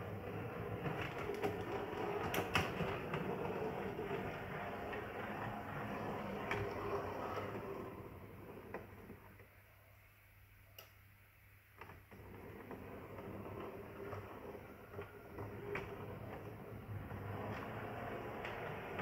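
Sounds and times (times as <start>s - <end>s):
model tram motor humming: 0.0s - 9.2s, 12.6s - 19.0s.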